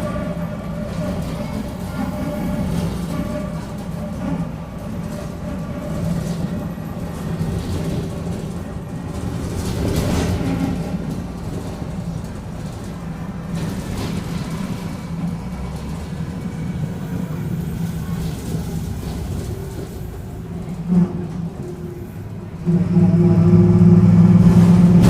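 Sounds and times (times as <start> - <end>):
bus drivetrain drone: 0.0 - 25.0.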